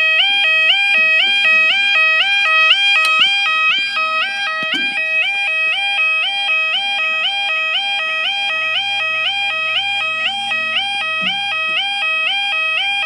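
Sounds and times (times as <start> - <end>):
level crossing yodel alarm: 0.0 - 13.0.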